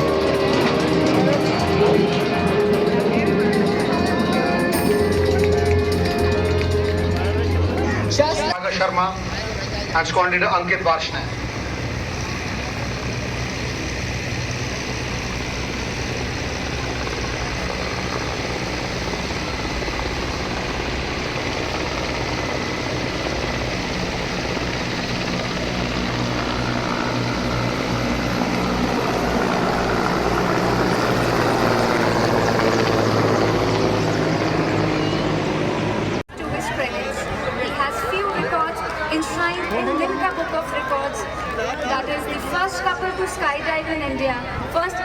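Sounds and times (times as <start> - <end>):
low-flying aircraft engines droning: 0.0 - 45.0.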